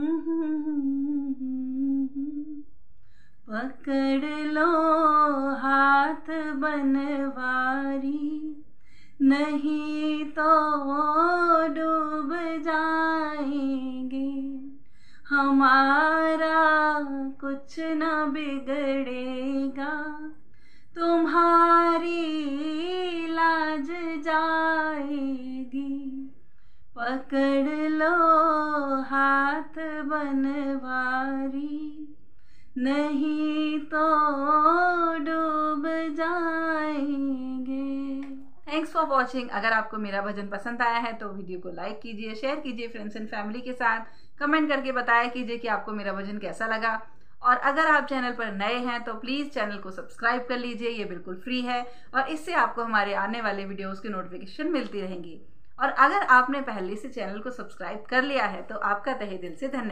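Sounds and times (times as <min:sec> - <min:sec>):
woman singing unaccompanied: 0:00.0 - 0:02.7, 0:03.5 - 0:08.6, 0:09.2 - 0:20.4, 0:21.0 - 0:26.4, 0:27.0 - 0:32.2, 0:32.8 - 0:53.9.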